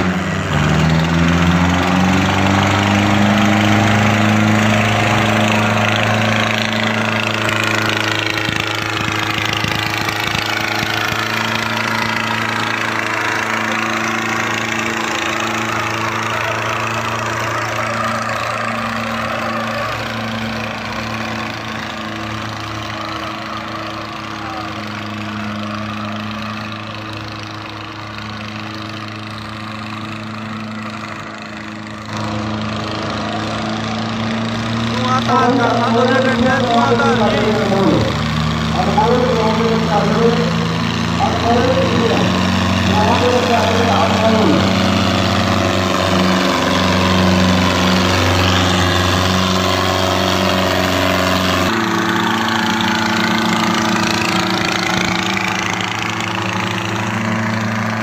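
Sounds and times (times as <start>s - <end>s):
diesel tractor engines under load: 0.0s - 58.0s.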